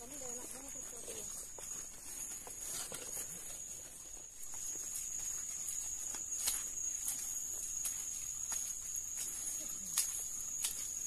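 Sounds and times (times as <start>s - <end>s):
footsteps on trail: 0.0s - 11.0s
forest insects chorus: 0.0s - 11.0s
leaves and twigs crackling underfoot: 0.0s - 11.0s.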